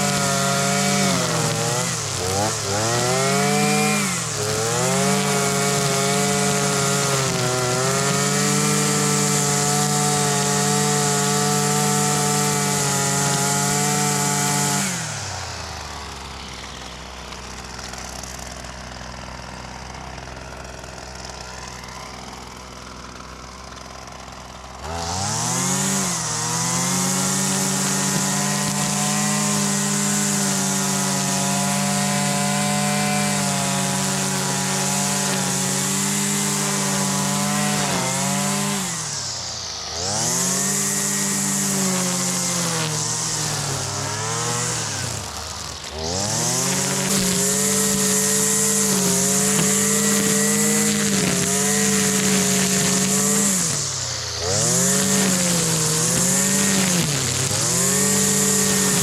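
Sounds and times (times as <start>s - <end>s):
string trimmer engine revving: 0.0s - 59.0s.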